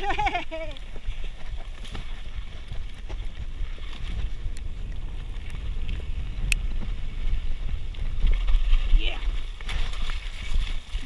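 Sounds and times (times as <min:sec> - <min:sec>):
bike tyres and frame rattling: 0:00.0 - 0:11.0
wind on microphone: 0:00.0 - 0:11.0.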